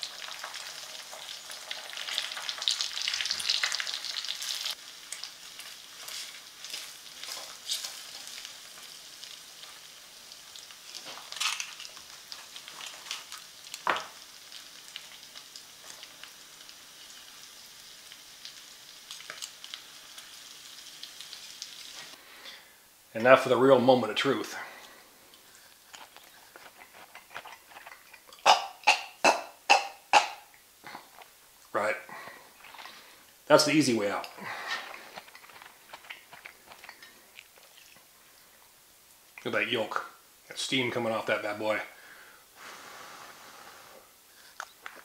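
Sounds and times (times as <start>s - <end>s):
bacon and eggs sizzling: 0.0s - 45.0s.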